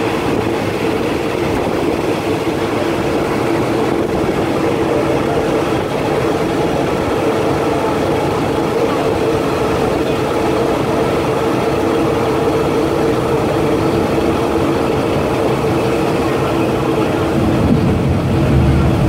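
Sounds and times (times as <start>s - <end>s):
constant hum: 0.0s - 19.0s
train wheels rumbling: 0.0s - 19.0s.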